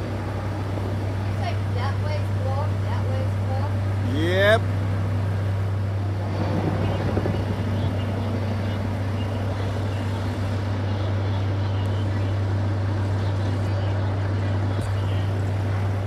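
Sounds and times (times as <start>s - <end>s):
helicopter engine and rotor: 0.0s - 16.0s
steady low drone: 0.0s - 16.0s.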